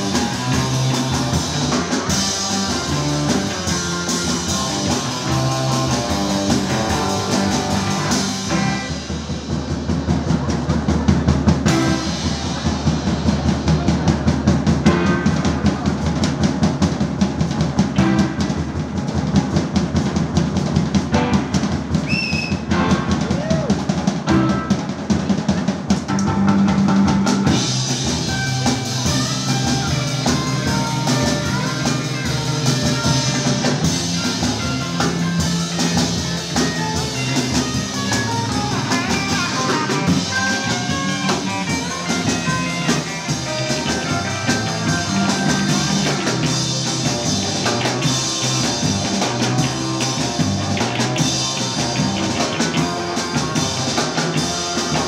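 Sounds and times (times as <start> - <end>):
drum break: 0.0 - 55.0
surf rock band playing: 0.0 - 55.0.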